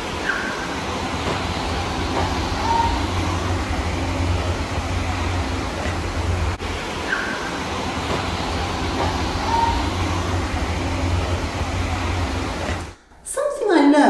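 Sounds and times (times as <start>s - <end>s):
steady low rumble: 0.8s - 13.1s.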